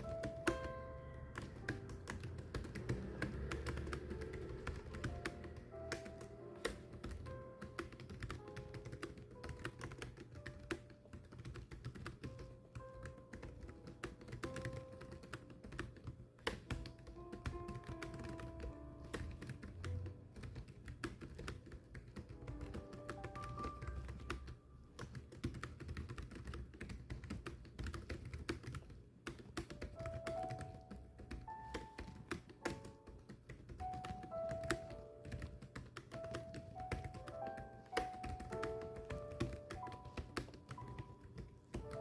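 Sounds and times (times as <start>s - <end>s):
rapid typing: 0.0s - 42.0s
soft background music: 0.0s - 42.0s.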